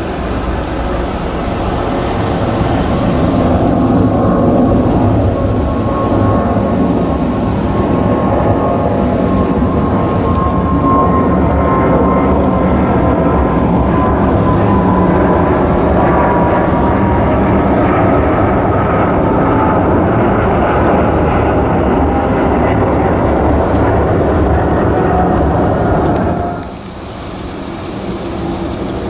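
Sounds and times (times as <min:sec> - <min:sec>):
jet aircraft roaring overhead: 0:00.0 - 0:29.0.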